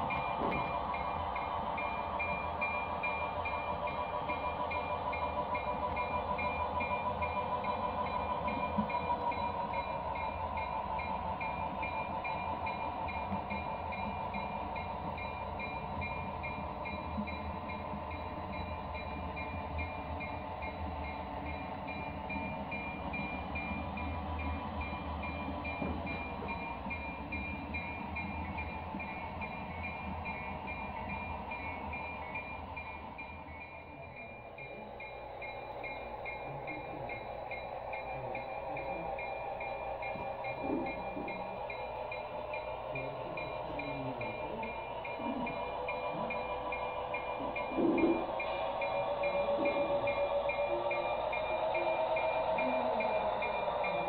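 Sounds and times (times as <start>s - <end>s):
model train cars rolling: 0.0s - 54.0s.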